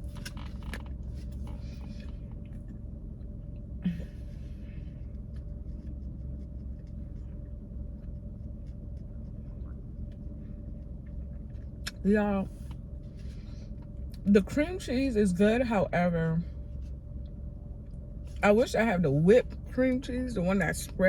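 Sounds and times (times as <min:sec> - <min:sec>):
car idling rumble: 0:00.0 - 0:21.0.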